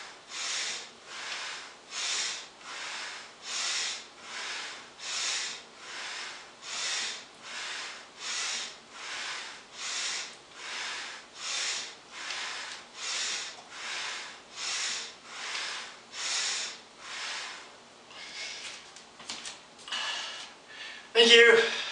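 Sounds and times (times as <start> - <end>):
rhythmic breathing: 0.0 - 19.0.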